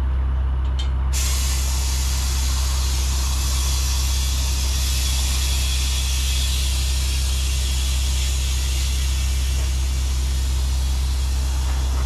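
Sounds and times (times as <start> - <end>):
truck engine idling: 0.0 - 12.0
compressed air hissing into tire: 1.2 - 12.0.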